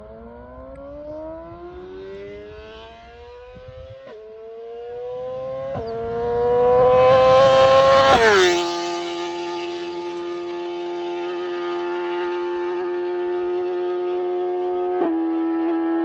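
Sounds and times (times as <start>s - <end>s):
motorcycle engine accelerating: 0.0s - 16.0s
motorcycle upshifts: 0.2s - 16.0s.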